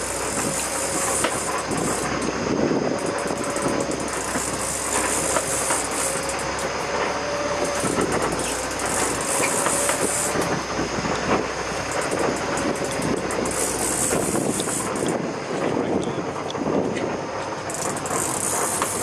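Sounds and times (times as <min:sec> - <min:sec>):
boat engine running: 0:00.0 - 0:19.0
rush of wind and water: 0:00.0 - 0:19.0.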